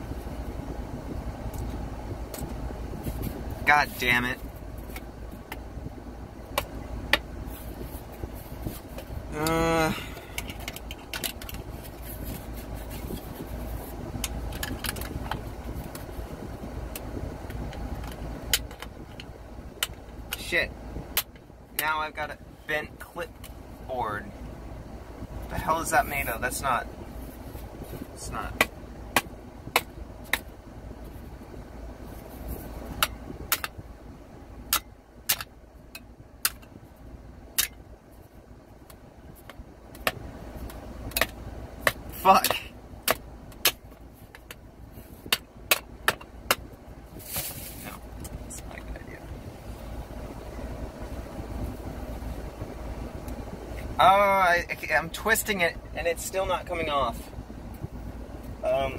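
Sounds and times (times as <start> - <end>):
low rumble inside car: 0.0 - 58.9.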